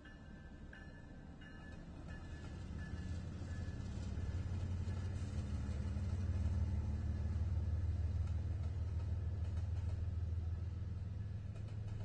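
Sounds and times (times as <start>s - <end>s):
diesel locomotives passing: 0.0s - 12.0s.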